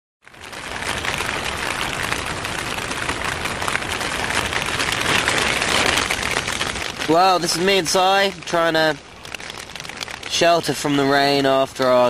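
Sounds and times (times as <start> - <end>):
rain pattering on a shelter: 0.2 - 12.0.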